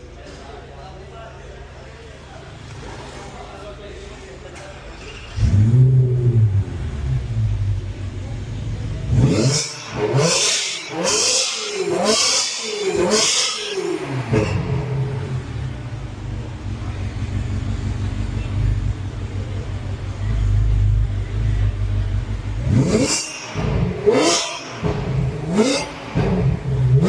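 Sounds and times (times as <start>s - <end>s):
car engine idling and revving: 5.1s - 27.0s.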